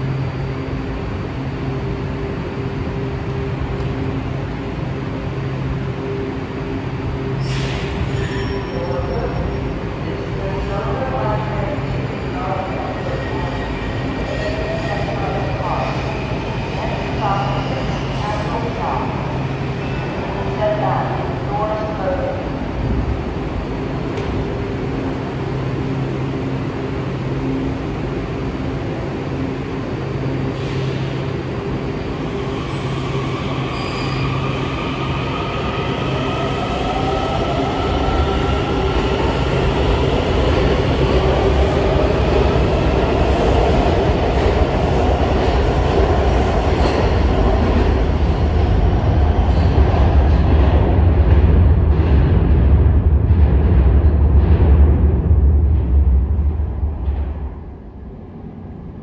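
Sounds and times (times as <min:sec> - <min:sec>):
subway train humming: 0:00.0 - 0:59.0
wheels rumbling on rail: 0:00.0 - 0:59.0.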